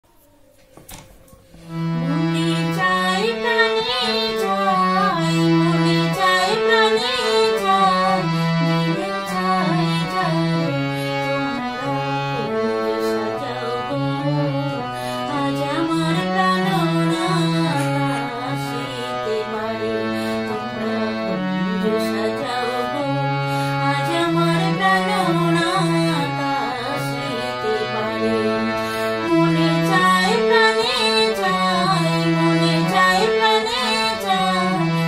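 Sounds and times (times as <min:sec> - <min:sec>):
harmonium folk melody: 0:00.1 - 0:35.0
woman singing: 0:02.0 - 0:35.0.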